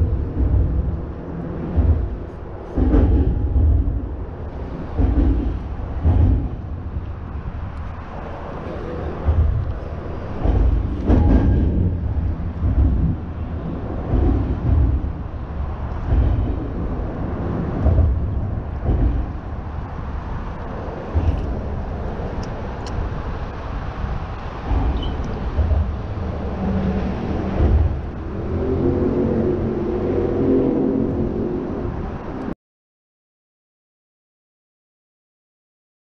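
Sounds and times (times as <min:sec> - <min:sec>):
rumble of passing traffic: 0:00.0 - 0:32.6.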